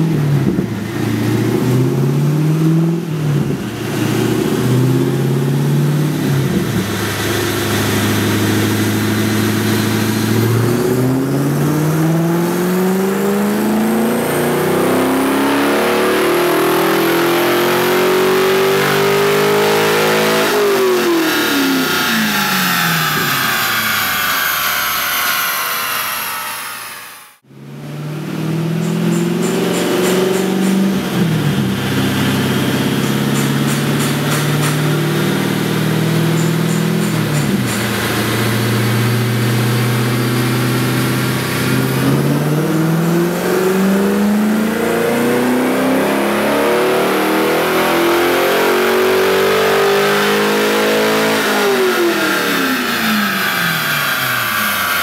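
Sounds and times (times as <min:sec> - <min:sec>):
car engine revving on dyno: 0:00.0 - 0:55.0.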